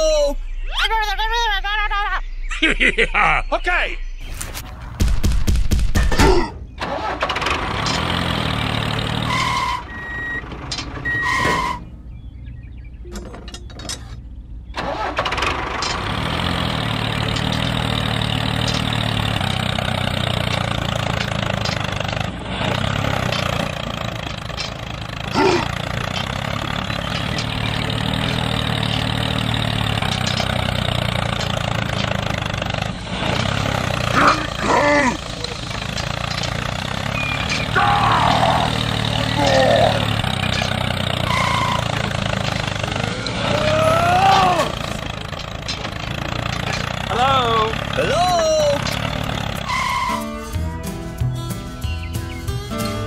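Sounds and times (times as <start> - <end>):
tractor engine running: 4.2 - 53.0.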